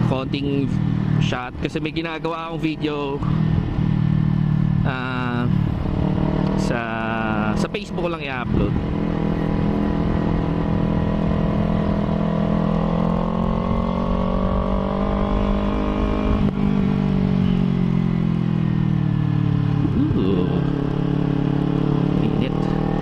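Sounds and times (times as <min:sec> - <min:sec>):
motorcycle engine: 0:00.0 - 0:23.0.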